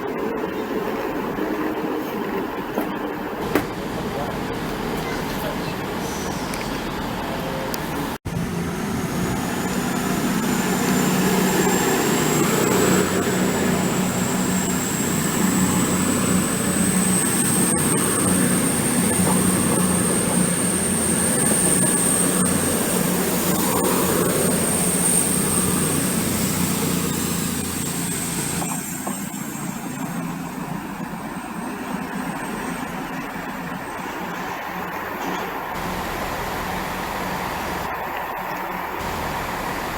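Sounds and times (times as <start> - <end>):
train rumbling with high whine: 0.0 - 39.9.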